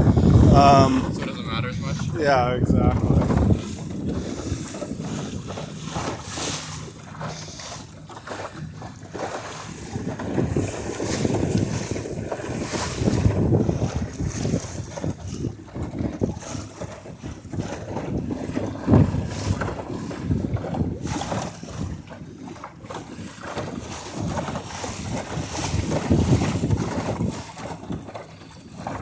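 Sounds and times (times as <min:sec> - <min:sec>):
wind gusting on microphone: 0:00.0 - 0:22.2, 0:23.2 - 0:29.0
water noise from moving boat: 0:00.0 - 0:29.0.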